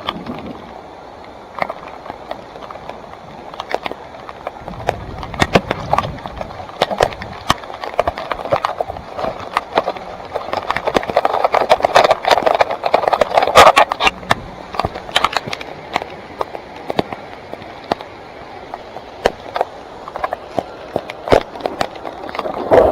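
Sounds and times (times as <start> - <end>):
tyres rolling over dirt and rocks: 0.0 - 22.9
bike rattling over bumps: 1.5 - 18.1, 18.8 - 22.9.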